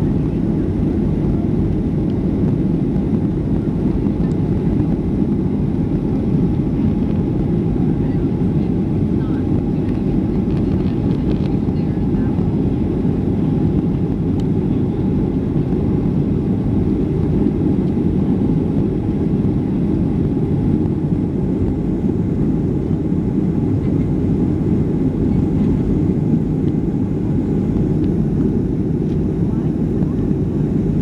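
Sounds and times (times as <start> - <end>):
jet engine cabin rumble: 0.0 - 31.0.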